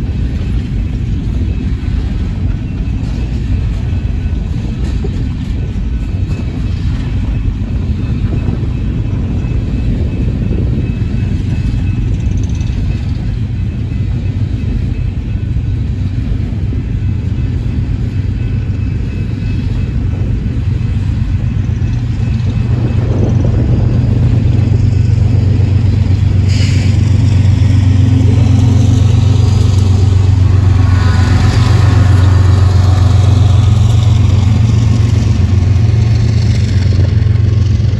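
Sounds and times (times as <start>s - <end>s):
diesel locomotive engine drone: 0.0s - 37.9s
hopper cars clattering on rails: 0.0s - 37.9s.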